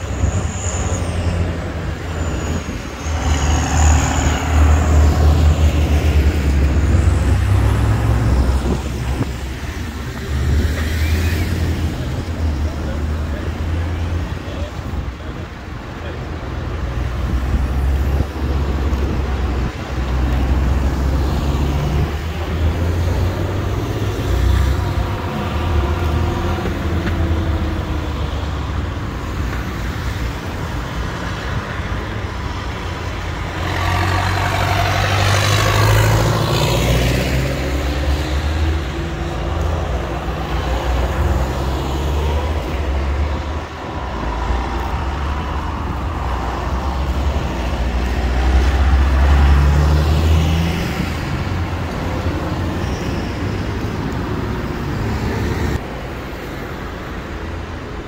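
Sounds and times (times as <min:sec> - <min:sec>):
cars passing by: 0:00.0 - 0:58.0
tractor engines passing: 0:00.0 - 0:58.0.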